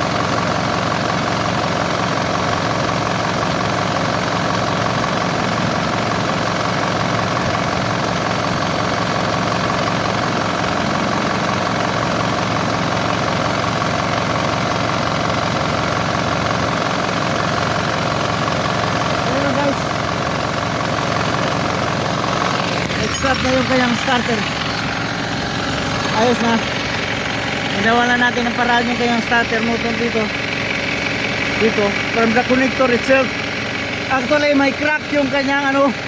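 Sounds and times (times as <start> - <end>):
bus engine idling: 0.0 - 36.0.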